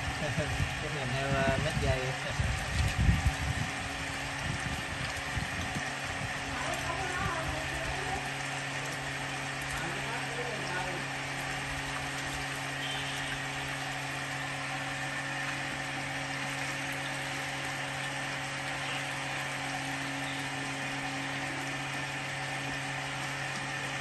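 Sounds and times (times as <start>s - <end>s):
drain-cleaning machine humming: 0.0s - 24.0s
water pouring from pipe: 0.0s - 24.0s.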